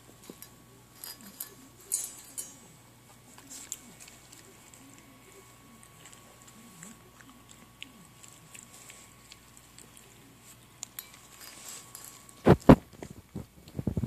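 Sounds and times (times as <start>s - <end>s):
puppy crunching dry kibble: 0.0s - 14.0s.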